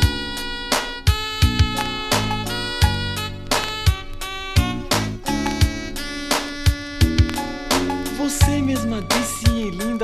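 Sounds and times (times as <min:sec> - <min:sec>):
bass: 0:00.0 - 0:10.0
keyboard chords: 0:00.0 - 0:10.0.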